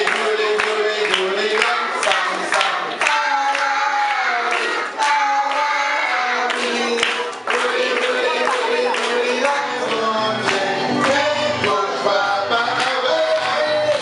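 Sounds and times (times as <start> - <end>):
hand-clapping: 0.0 - 12.0, 12.7 - 14.0
congregation singing: 0.0 - 14.0.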